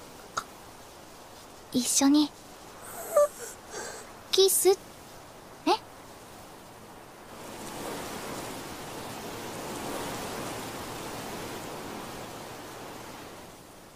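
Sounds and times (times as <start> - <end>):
wind rushing through leaves: 0.0 - 13.9.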